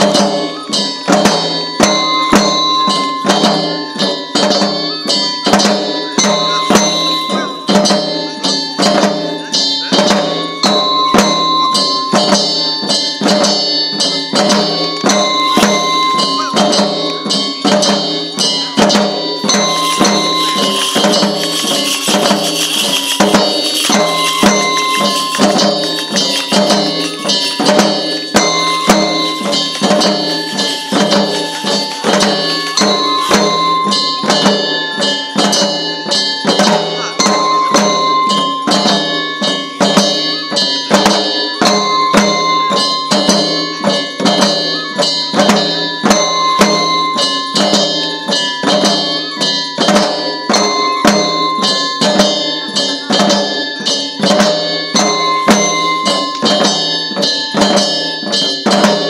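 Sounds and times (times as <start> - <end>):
bamboo flute melody: 0.0 - 58.2
clanking metallic percussion: 0.0 - 59.0
taiko drum beating: 0.0 - 59.0.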